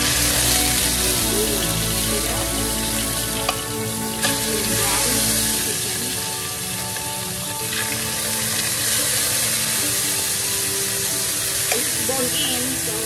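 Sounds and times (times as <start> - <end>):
chicken sizzling in hot oil: 0.0 - 13.0
faint background music: 0.0 - 13.0.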